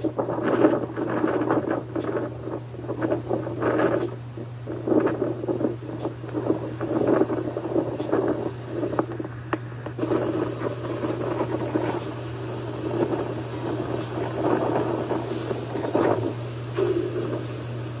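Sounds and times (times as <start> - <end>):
strong wind gusting: 0.0 - 9.1, 10.0 - 18.0
steady low hum: 0.0 - 18.0.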